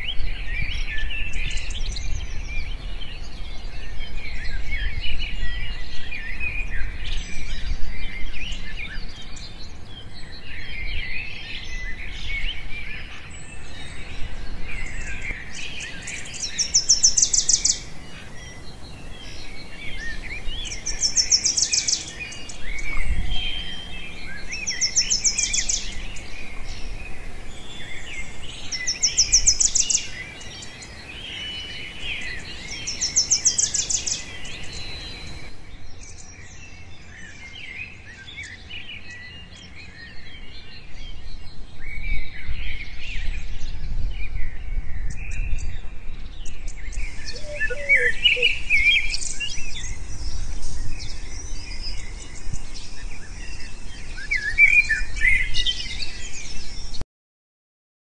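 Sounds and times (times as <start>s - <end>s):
birds chirping and calling: 0.5s - 36.3s, 45.3s - 57.0s.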